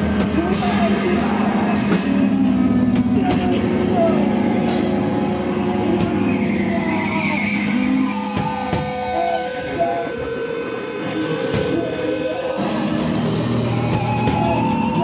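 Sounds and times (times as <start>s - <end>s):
droning amplified guitar noise: 0.0s - 15.0s.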